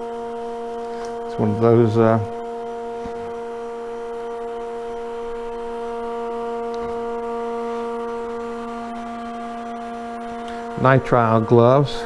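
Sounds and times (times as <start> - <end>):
vacuum pump electric hum: 0.0 - 12.0.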